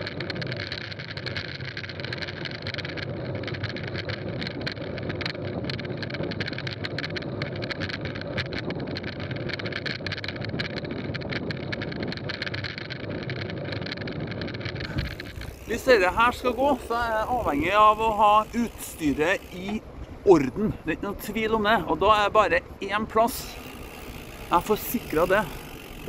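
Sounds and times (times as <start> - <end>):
bike tyres rolling on gravel: 0.0 - 26.0
gravel clicks: 0.0 - 26.0.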